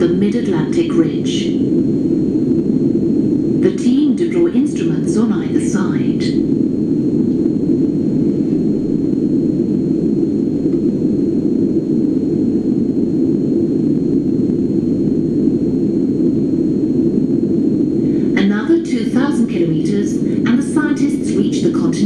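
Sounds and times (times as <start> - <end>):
low rumble over loudspeakers: 0.0 - 22.0.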